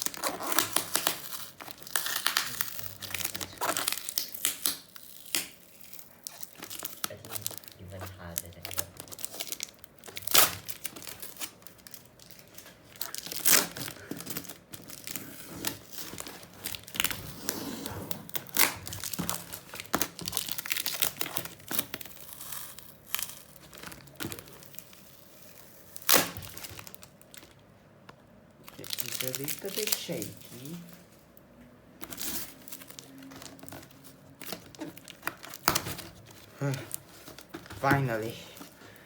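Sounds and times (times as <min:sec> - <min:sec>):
packaging crinkling and tearing: 0:00.0 - 0:27.6, 0:28.6 - 0:31.1, 0:32.0 - 0:39.0.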